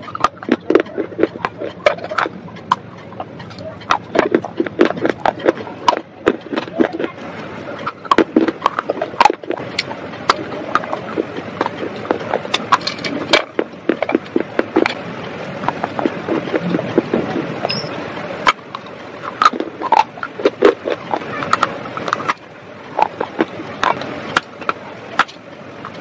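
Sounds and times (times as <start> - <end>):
crunching baked clay: 0.0 - 26.0.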